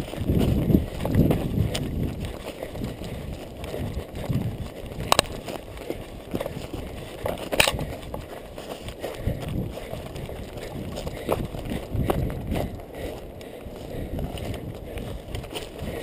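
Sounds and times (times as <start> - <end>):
running footfalls: 0.0 - 16.0.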